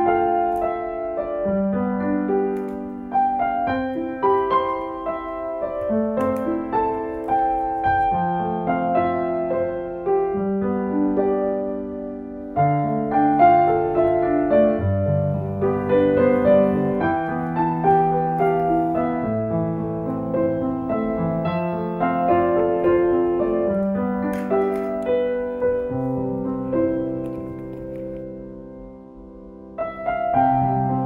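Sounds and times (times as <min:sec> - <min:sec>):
solo piano ballad: 0:00.0 - 0:31.0.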